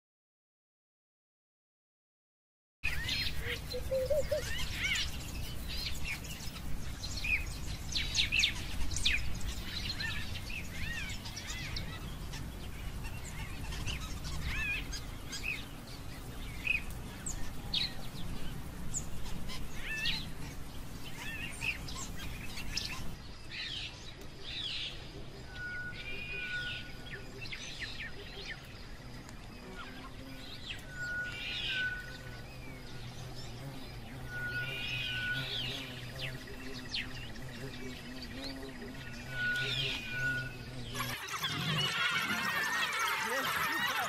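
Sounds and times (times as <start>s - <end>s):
high chirping calls: 2.8s - 23.7s, 24.6s - 44.0s.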